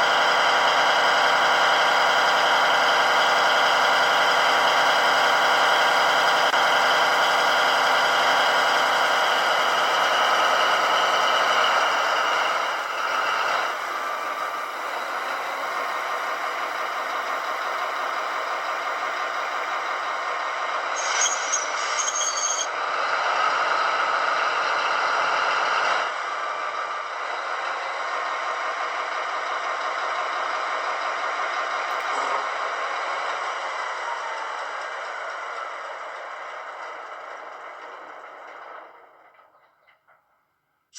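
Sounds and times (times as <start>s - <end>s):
diesel engine sound from small speaker: 0.0s - 39.8s.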